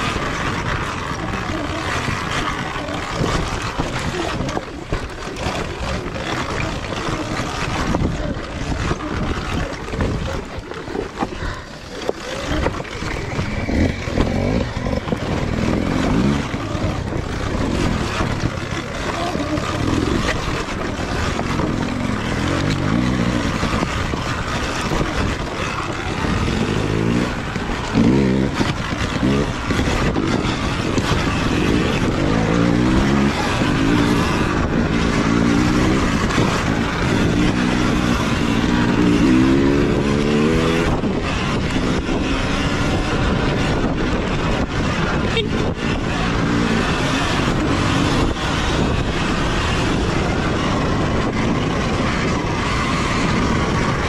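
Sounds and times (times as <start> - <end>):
tyres on dirt and stones: 0.0 - 54.0.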